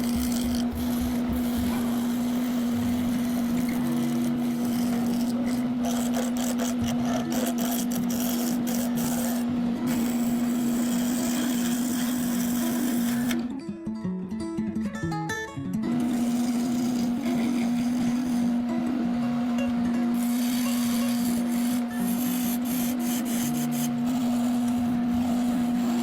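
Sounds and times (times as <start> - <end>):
tool rasping against spinning wood: 0.0 - 13.4, 16.0 - 26.0
wood lathe humming: 0.0 - 13.5, 15.9 - 26.0.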